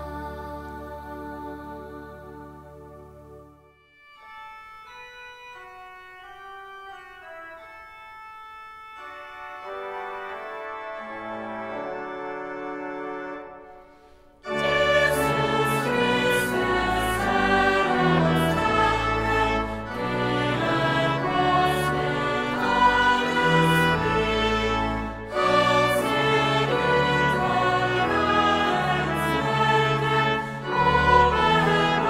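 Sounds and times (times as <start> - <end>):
choir singing: 0.0 - 3.6, 9.6 - 32.0
organ music: 0.0 - 32.0.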